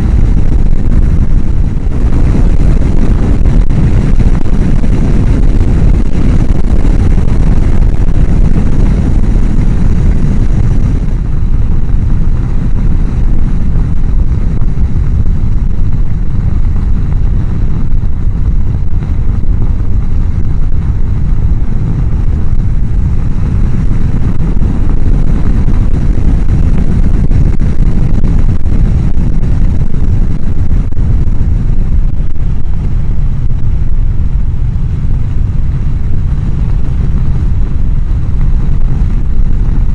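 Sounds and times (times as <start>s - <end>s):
wind rushing over helmet microphone: 0.0s - 39.9s.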